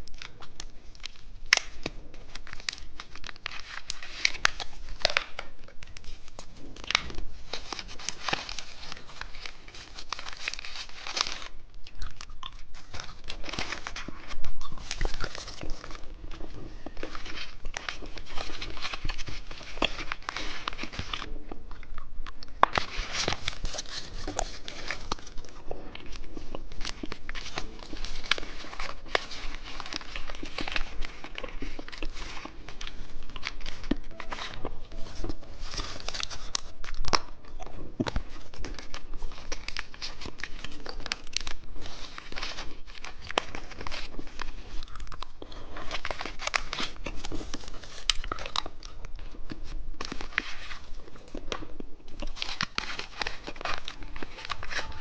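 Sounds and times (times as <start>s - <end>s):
candy crunching: 0.0s - 55.0s
plastic wrappers crinkling: 0.0s - 55.0s.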